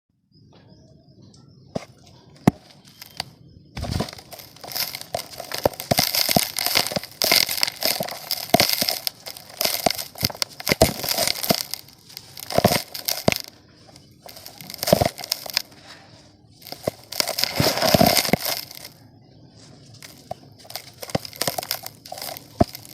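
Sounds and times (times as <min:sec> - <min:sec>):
dry mud crunching and crumbling: 0:01.8 - 0:22.9.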